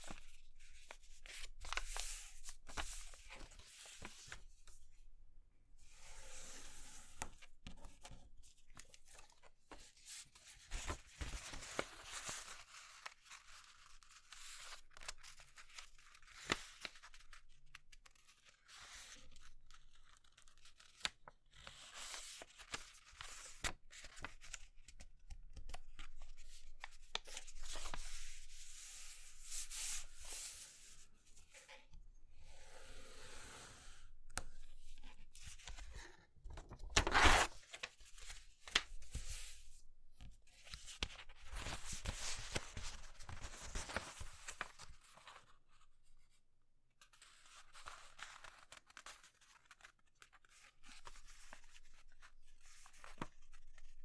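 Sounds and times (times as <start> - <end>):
paper folding and rustling: 0.0 - 4.8, 6.2 - 31.8, 34.4 - 45.8, 47.1 - 54.0.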